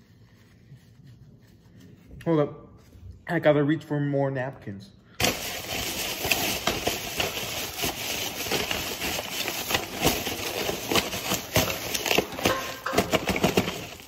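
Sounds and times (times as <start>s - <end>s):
hands rummaging through paper napkins: 0.0s - 3.0s, 5.2s - 14.0s.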